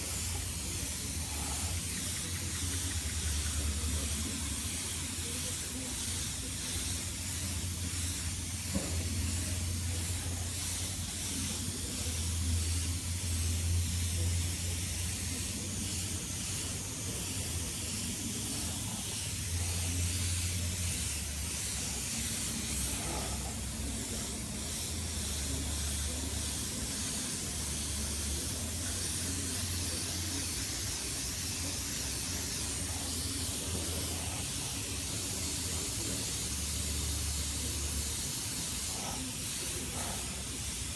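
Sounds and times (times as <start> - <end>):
spray gun hissing: 0.0 - 40.9.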